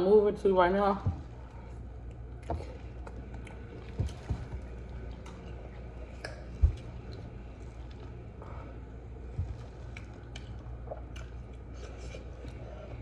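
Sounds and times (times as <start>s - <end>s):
steady low hum: 0.0s - 13.0s
person chewing food: 1.2s - 13.0s.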